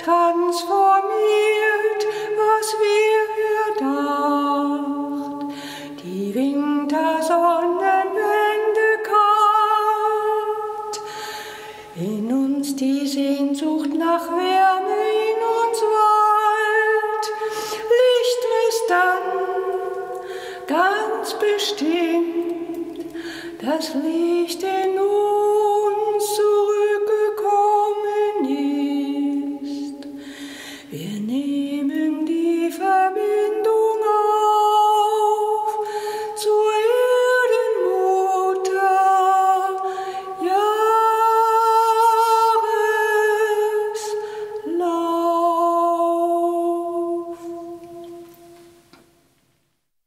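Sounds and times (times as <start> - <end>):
person singing wordless melody: 0.0 - 11.1, 11.8 - 48.6.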